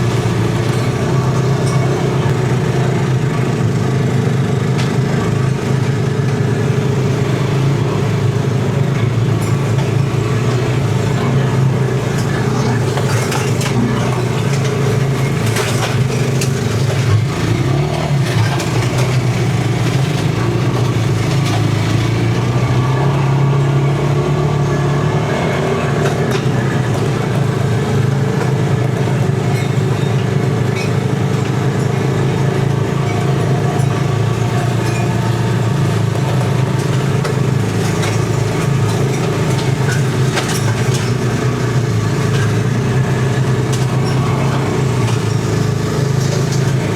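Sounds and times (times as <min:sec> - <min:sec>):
mower engine droning: 0:00.0 - 0:46.9.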